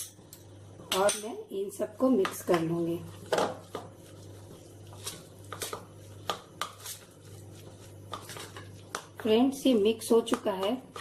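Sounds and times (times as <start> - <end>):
spoon stirring thick paste: 2.0 - 11.0.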